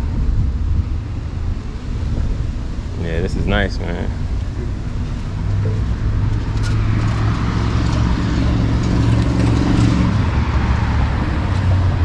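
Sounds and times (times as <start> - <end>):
low engine hum: 0.0 - 12.0
road and tyre noise: 0.0 - 12.0.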